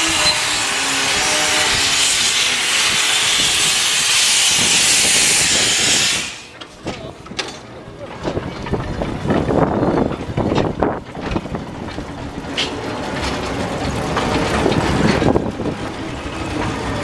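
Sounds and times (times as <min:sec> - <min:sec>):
steam locomotive exhaust beats: 0:00.0 - 0:07.4, 0:08.2 - 0:17.0
carriages clattering on rails: 0:00.0 - 0:17.0.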